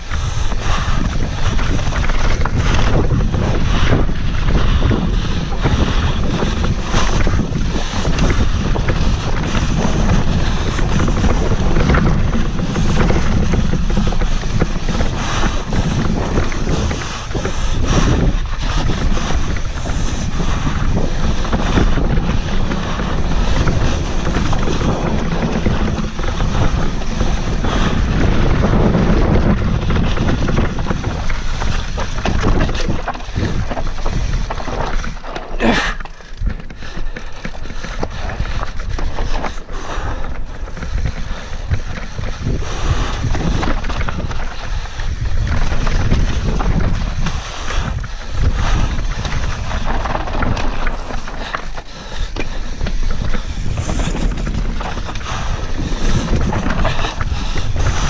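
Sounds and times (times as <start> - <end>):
bike rattling over bumps: 0.0 - 58.0
bike tyres rumbling on dirt: 0.0 - 58.0
wind buffeting microphone: 0.0 - 58.0.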